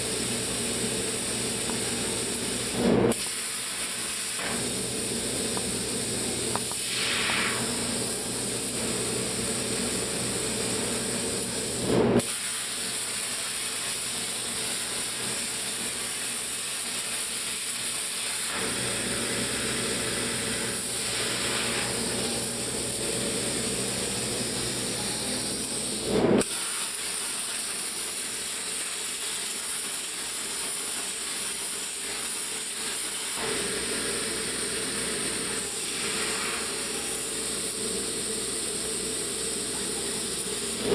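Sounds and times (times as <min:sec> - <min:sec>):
plasma cutter hissing: 0:00.0 - 0:40.9.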